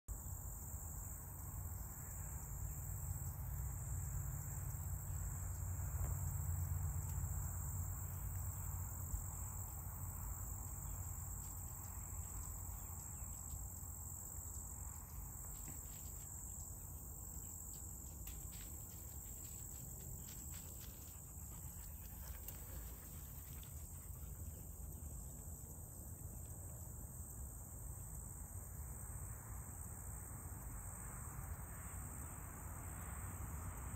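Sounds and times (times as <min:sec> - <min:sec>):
insects chirring: 0:00.1 - 0:33.9.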